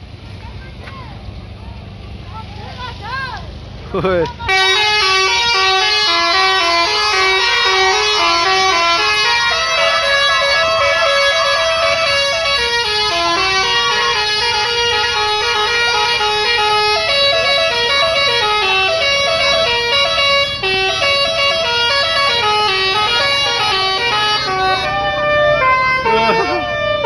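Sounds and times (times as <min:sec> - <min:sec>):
musical air horn melody: 0:04.5 - 0:27.0.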